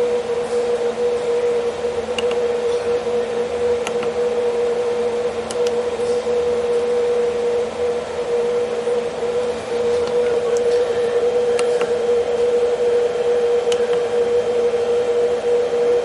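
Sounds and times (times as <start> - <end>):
machine hum and whir: 0.0 - 16.0.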